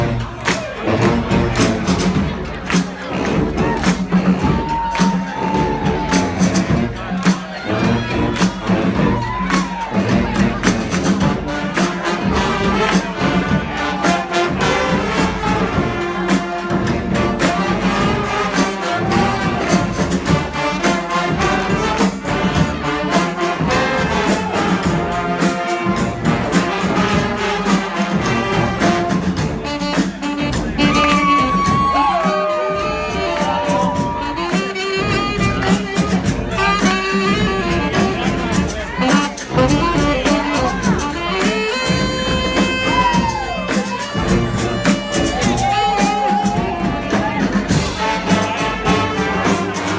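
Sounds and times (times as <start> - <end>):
brass band playing: 0.0 - 49.9
drum beat: 0.0 - 49.9.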